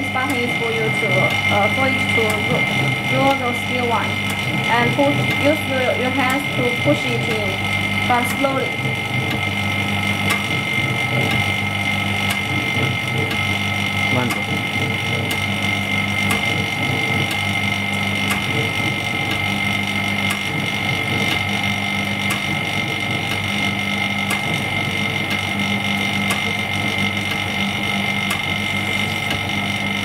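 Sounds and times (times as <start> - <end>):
machine hum with high whine: 0.0 - 30.0.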